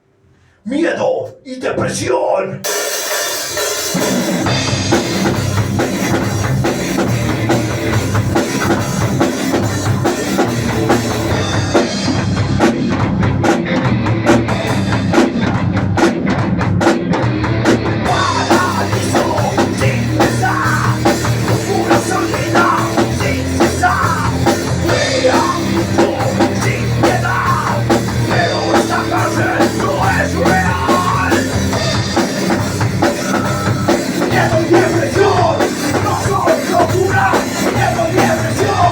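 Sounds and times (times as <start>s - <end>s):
distorted guitars: 1.2s - 38.9s
drum kit playing: 2.6s - 38.9s
bass guitar: 3.8s - 38.9s.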